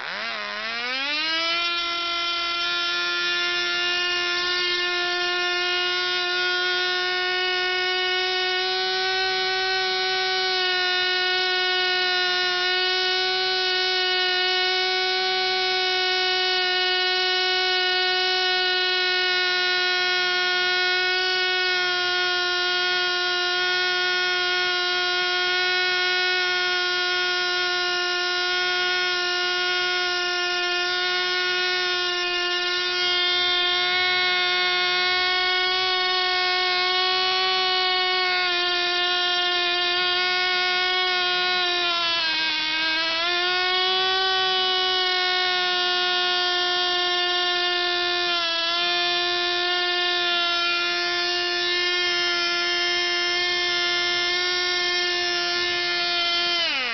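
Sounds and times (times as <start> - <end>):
model engine high-pitched whine: 0.0 - 56.9.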